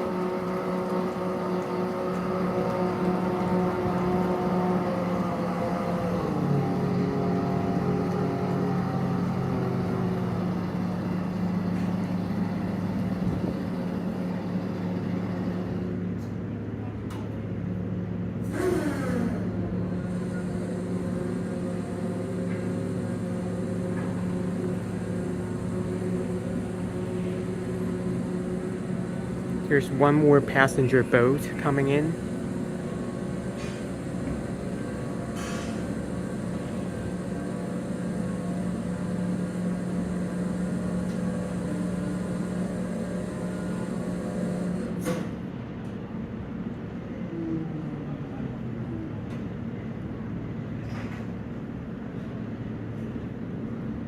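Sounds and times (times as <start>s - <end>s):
low engine hum: 0.0s - 54.0s
low mechanical drone: 0.0s - 54.0s.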